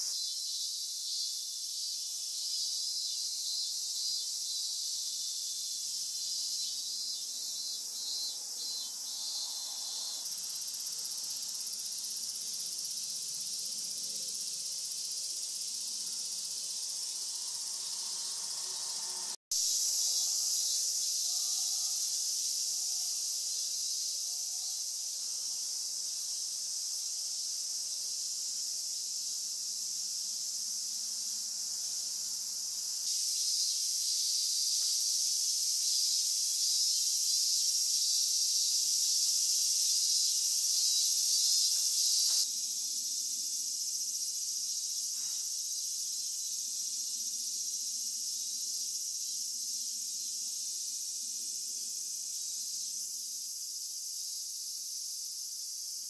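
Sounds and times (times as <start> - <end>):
insect chorus shrilling: 0.0 - 56.0.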